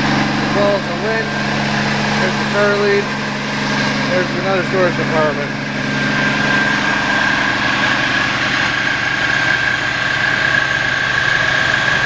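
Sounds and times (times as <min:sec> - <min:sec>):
diesel engine idling: 0:00.0 - 0:12.0
high whine: 0:00.0 - 0:12.0.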